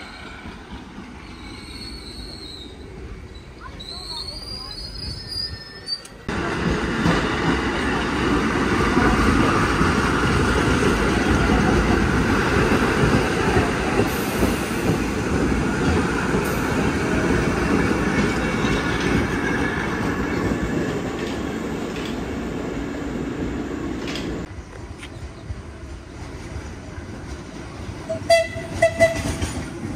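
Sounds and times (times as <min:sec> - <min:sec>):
subway train passing: 0:00.0 - 0:29.9.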